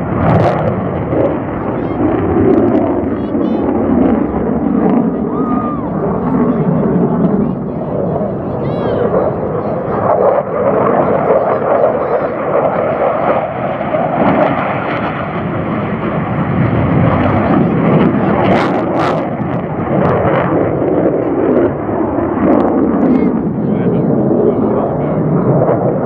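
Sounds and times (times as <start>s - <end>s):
jet engine on afterburner: 0.0s - 26.0s.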